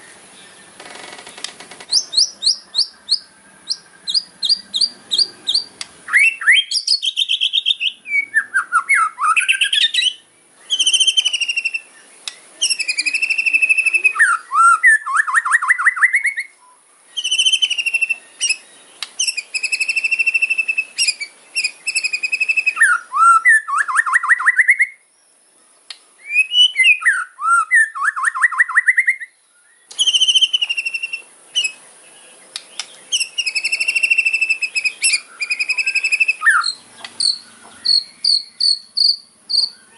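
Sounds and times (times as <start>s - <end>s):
bird singing rattling trills: 0.0s - 39.9s.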